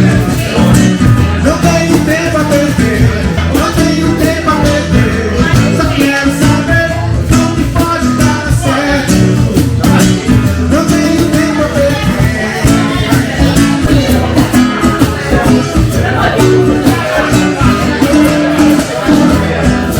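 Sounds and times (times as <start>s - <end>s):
live band music: 0.0s - 19.9s
person singing: 0.0s - 19.9s.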